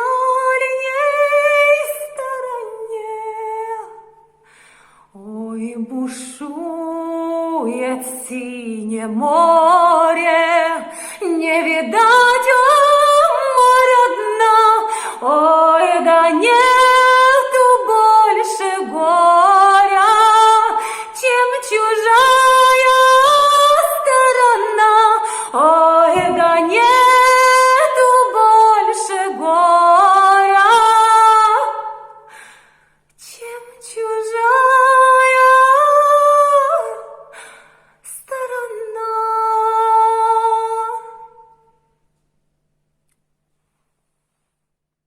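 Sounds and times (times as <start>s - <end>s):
woman singing unaccompanied: 0.0s - 4.2s, 5.2s - 32.1s, 33.2s - 37.2s, 38.1s - 41.5s.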